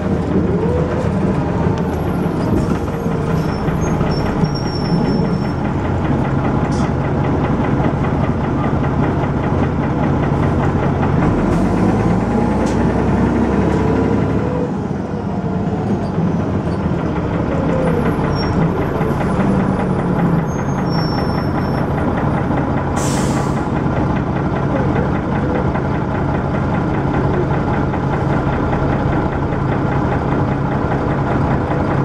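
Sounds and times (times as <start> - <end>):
bus engine knocking: 0.0 - 32.0.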